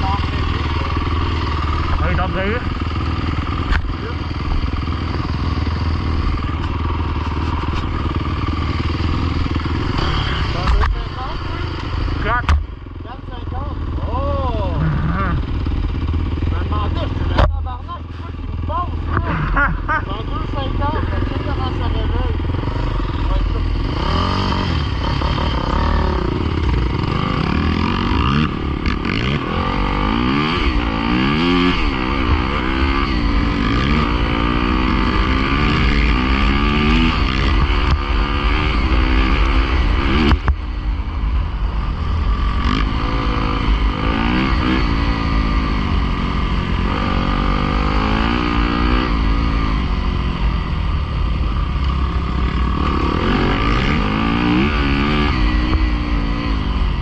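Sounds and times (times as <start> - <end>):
pit bike engine revving: 0.0 - 57.0.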